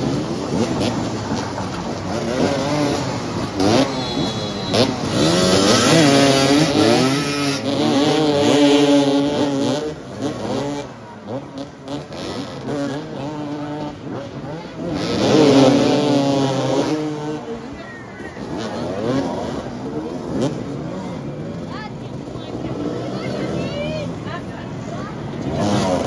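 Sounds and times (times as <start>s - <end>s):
motorcycles revving: 0.0s - 26.0s.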